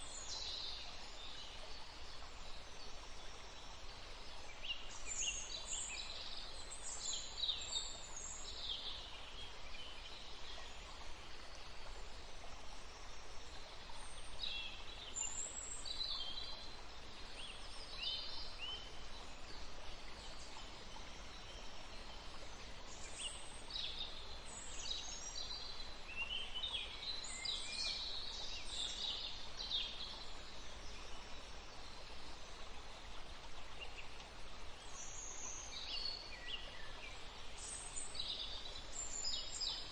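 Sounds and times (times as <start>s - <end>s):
forest stream rushing: 0.0s - 39.9s.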